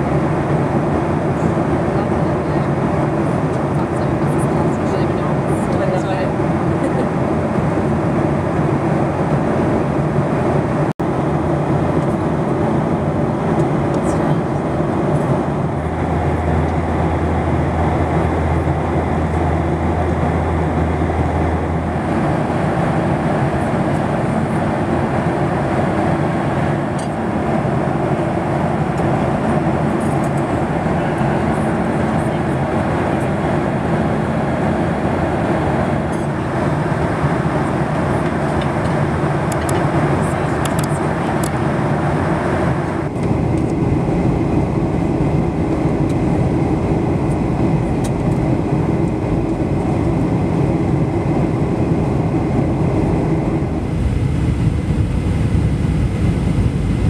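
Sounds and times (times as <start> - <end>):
jet airliner engine rumble: 0.0 - 57.0
low hum: 11.1 - 57.0.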